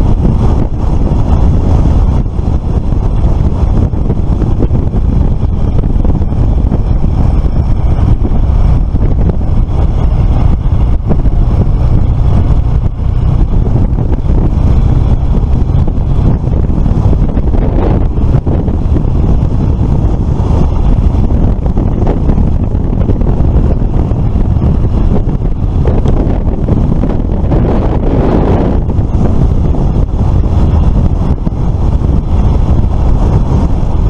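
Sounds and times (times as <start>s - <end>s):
road noise: 0.0s - 34.0s
scooter engine rumble: 0.0s - 34.0s
wind buffeting microphone: 0.0s - 34.0s.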